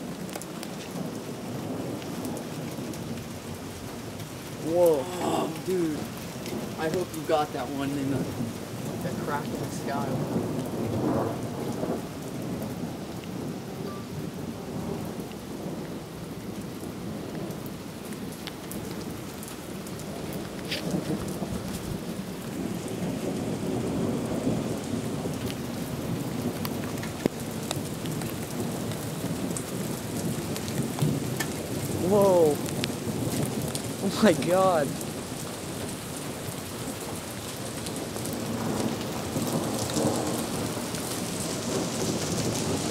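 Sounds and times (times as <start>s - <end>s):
steady rain: 0.0s - 42.9s
rolling thunder: 4.5s - 19.2s, 19.8s - 35.9s, 37.8s - 42.9s.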